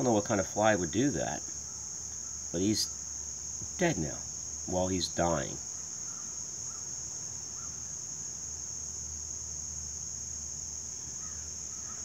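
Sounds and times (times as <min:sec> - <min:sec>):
chorus of crickets: 0:00.0 - 0:12.0.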